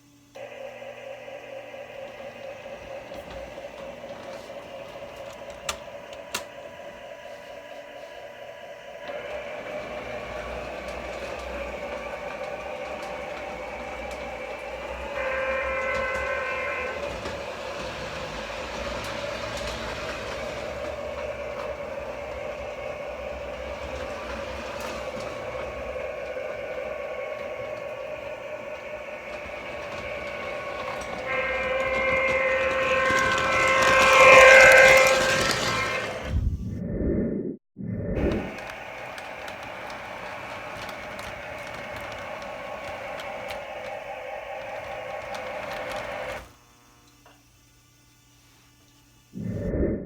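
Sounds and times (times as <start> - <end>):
model train running sound: 0.0 - 36.4, 38.2 - 49.4
train horn blast: 0.4 - 36.3, 38.4 - 47.0.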